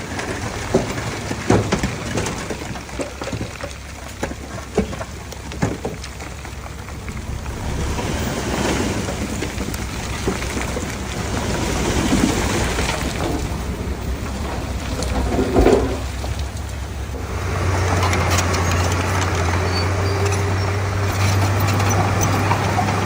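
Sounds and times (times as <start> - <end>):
diesel engine rumble: 0.0 - 23.0.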